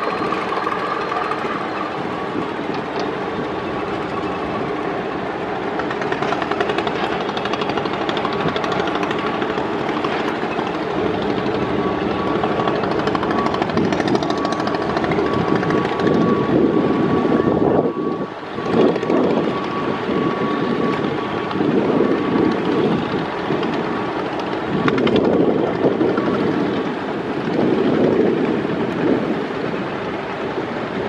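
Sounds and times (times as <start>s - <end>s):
boat diesel engines droning: 0.0s - 31.0s
faint steady whine: 0.0s - 31.0s
wind noise on microphone: 0.0s - 31.0s.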